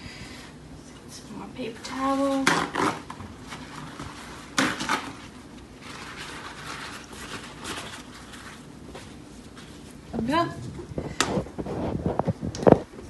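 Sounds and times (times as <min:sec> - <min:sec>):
paper towels rustling: 0:02.0 - 0:12.5.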